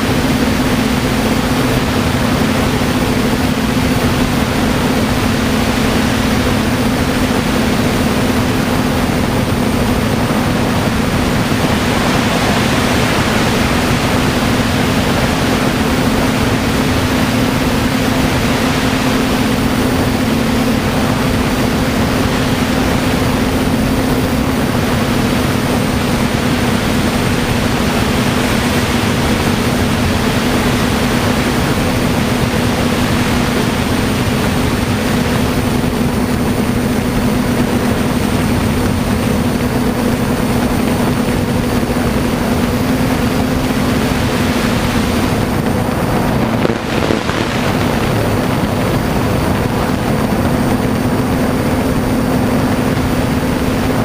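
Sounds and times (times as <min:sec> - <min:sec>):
drone motors buzzing hum: 0:00.0 - 0:54.0
wind rushing over microphone: 0:00.0 - 0:54.0.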